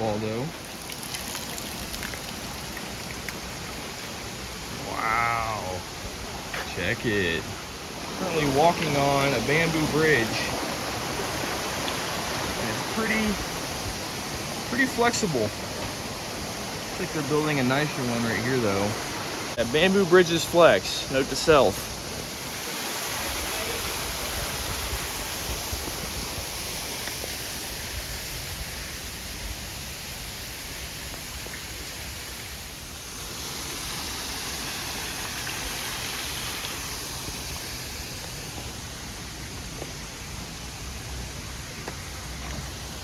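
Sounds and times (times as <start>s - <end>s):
waterfall and stream rushing: 0.0s - 43.0s.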